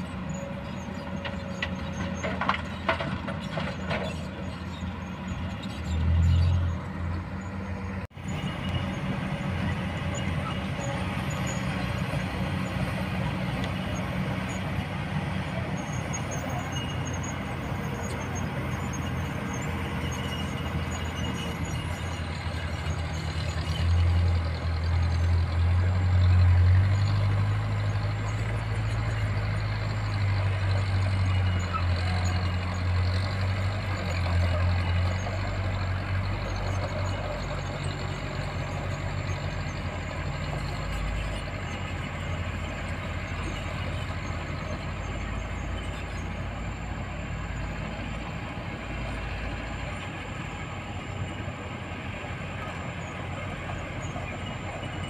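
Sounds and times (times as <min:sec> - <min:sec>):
diesel engines drone: 0:00.0 - 0:55.0.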